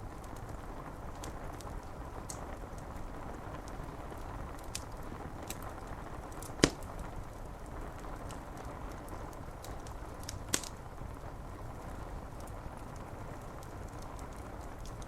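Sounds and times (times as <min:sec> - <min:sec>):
rain on window glass: 0:00.0 - 0:15.0
wood fire crackling: 0:00.0 - 0:15.0.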